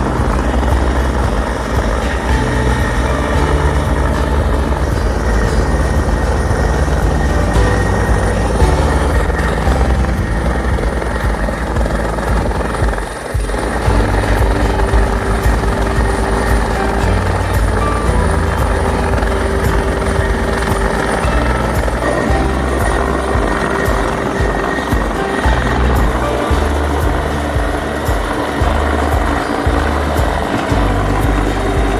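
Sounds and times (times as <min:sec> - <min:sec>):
helicopter rotors and engines: 0:00.0 - 0:31.9.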